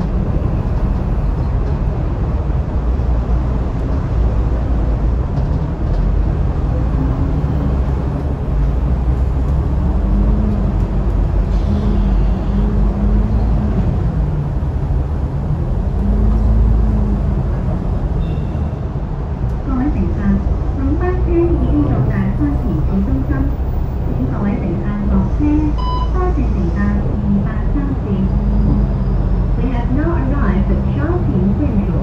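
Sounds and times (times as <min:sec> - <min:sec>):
bus diesel engine running: 0:00.0 - 0:18.2, 0:18.8 - 0:32.0.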